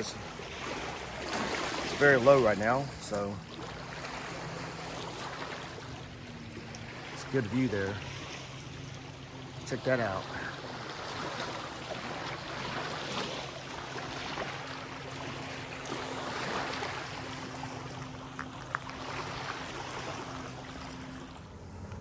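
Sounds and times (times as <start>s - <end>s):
distant motorboat engine hum: 0.0s - 22.0s.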